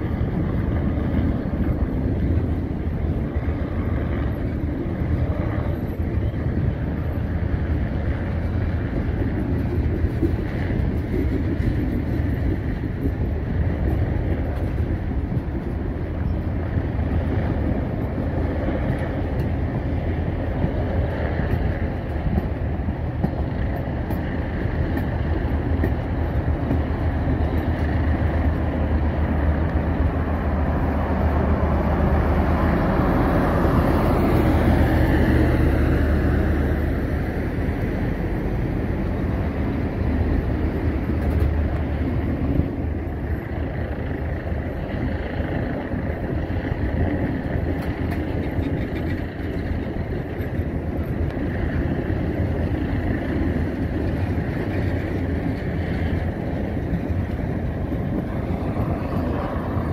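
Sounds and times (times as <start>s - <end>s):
train cars rumbling on rails: 0.0s - 59.9s.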